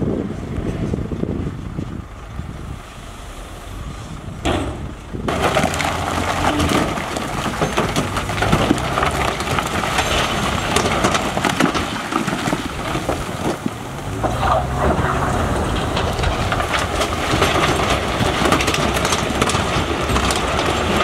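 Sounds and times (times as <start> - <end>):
rocks tumbling and crashing: 0.4 - 21.0.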